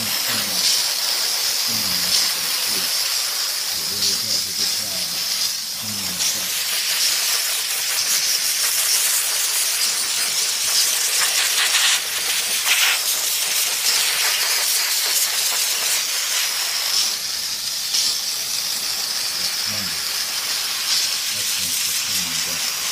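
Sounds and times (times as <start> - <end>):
steam nozzle hissing: 0.0 - 22.9.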